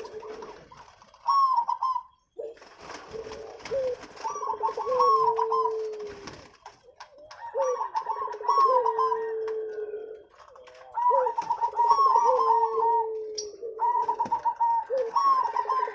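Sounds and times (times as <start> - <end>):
doves cooing: 0.0 - 15.9.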